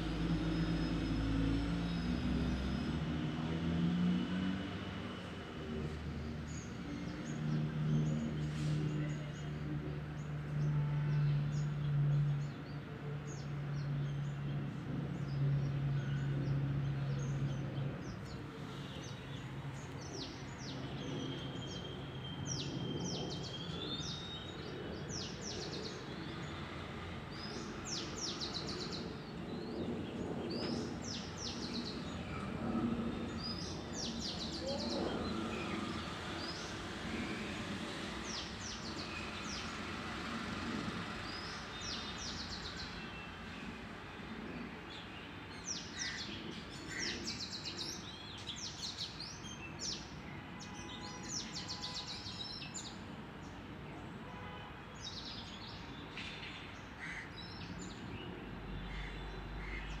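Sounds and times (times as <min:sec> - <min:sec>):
outdoor background noise: 0:00.0 - 1:00.0.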